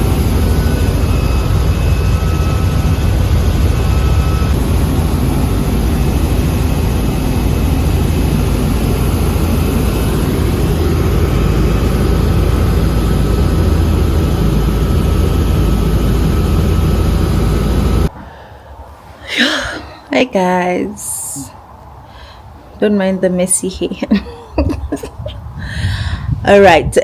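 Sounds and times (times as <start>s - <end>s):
helicopter engine and rotors droning: 0.0s - 18.1s, 19.3s - 27.0s.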